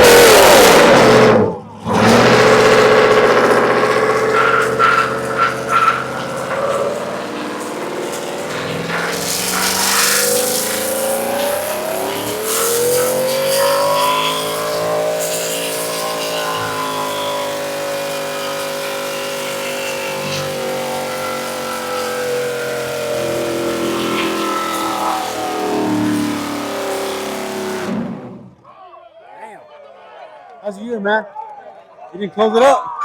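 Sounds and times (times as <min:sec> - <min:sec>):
car engine revving: 0:00.0 - 0:28.6.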